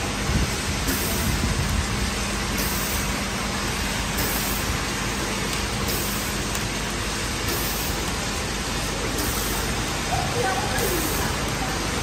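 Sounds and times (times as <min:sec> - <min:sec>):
bottling machine hissing: 0:00.0 - 0:12.0.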